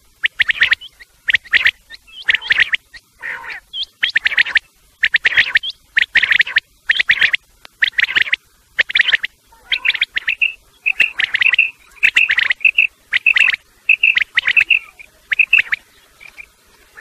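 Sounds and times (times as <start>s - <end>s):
quail calling: 0.2s - 17.0s.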